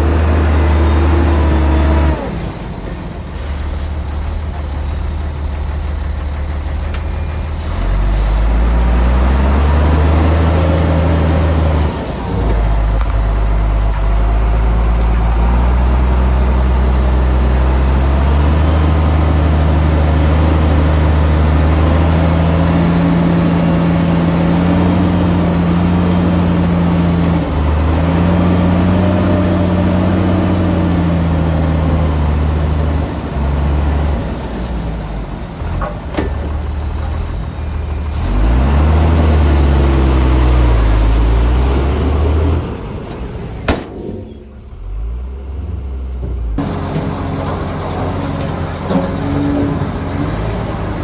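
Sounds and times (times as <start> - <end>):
heavy diesel engine under load: 0.0 - 51.0.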